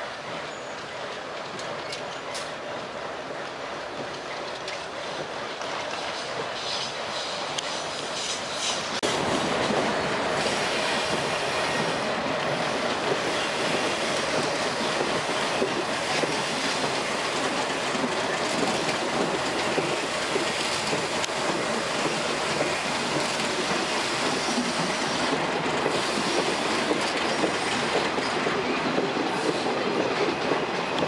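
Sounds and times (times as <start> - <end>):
train wheels clattering over rails: 0.3 - 31.0.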